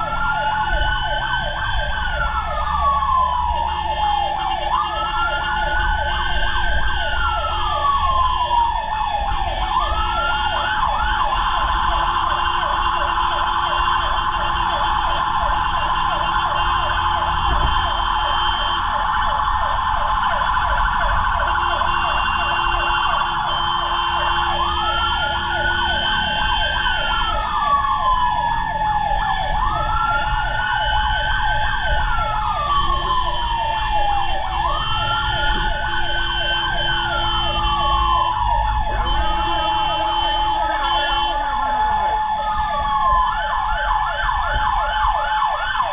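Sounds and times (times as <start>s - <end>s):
siren wailing: 0.0s - 45.9s
siren yelping rapidly: 0.0s - 45.9s.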